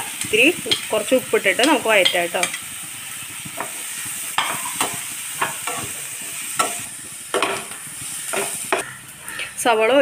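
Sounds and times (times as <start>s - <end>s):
metal spoon scraping a pan: 0.0s - 9.5s
onions sizzling in a frying pan: 0.0s - 10.0s.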